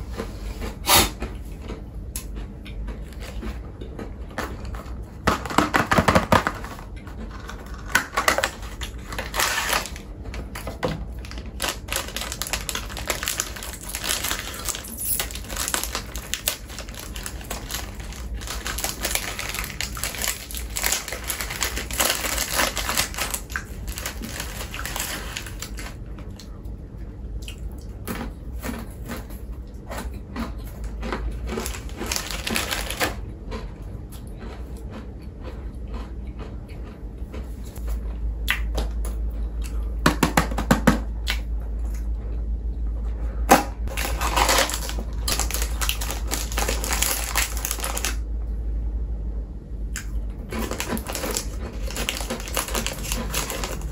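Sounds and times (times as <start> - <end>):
crunchy snack being chewed: 0.6 - 5.6, 6.2 - 38.8, 43.9 - 48.2, 49.9 - 53.9.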